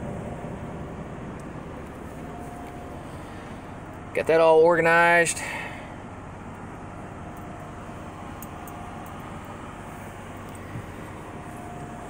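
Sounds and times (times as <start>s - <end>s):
faint steady whine: 0.0s - 12.0s
truck cab low rumble and hiss: 0.0s - 12.0s.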